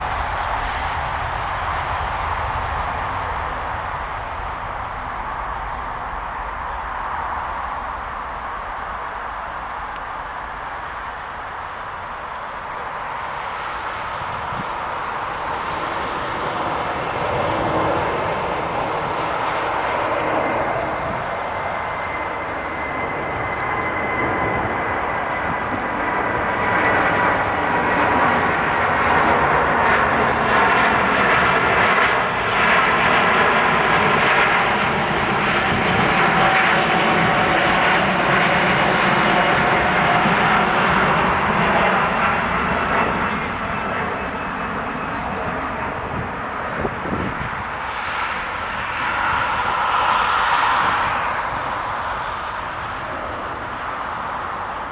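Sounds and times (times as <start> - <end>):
high engine whine: 0.0 - 54.9
jet engines running: 0.0 - 54.9.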